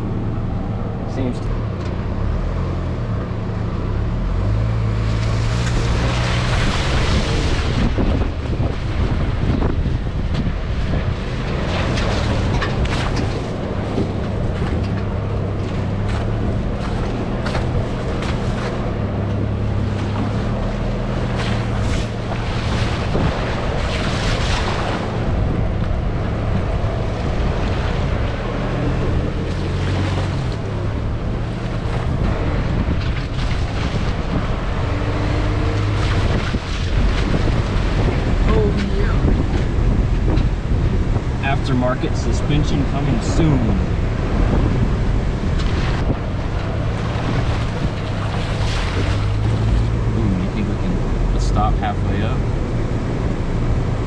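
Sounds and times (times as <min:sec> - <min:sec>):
wind buffeting microphone: 0:04.9 - 0:54.0
pickup truck engine running: 0:07.6 - 0:54.0.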